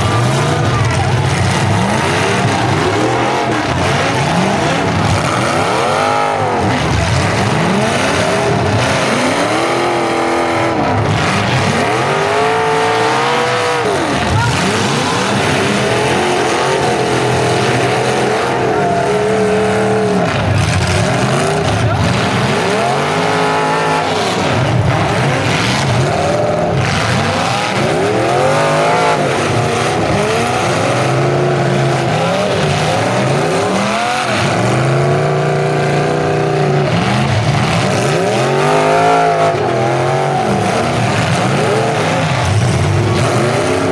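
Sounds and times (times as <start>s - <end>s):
car engines revving: 0.0s - 43.9s.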